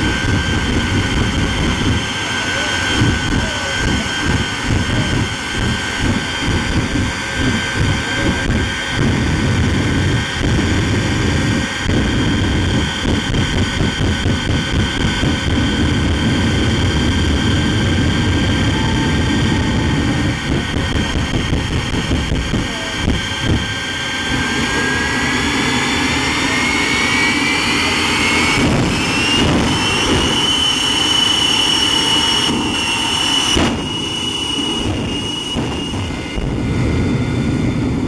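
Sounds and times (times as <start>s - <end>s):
fluttering exhaust rumble: 0.0s - 38.0s
jet engine turbine whine: 0.0s - 38.0s.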